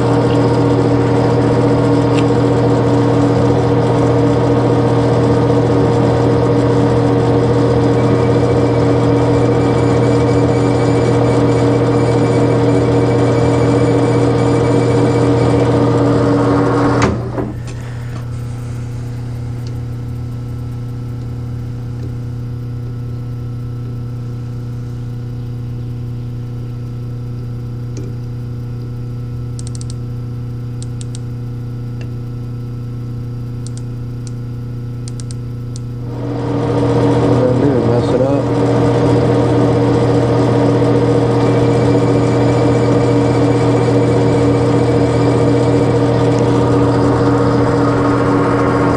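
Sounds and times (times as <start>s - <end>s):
metal lathe humming: 0.0s - 26.2s, 35.6s - 48.9s.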